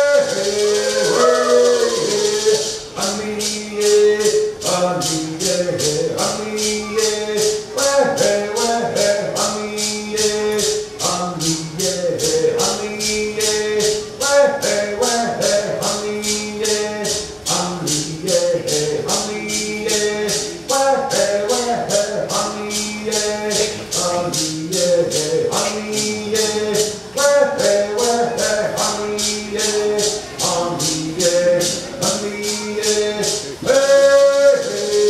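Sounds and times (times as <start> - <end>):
shaken rattle beat: 0.0 - 35.0
voices singing: 0.0 - 35.0.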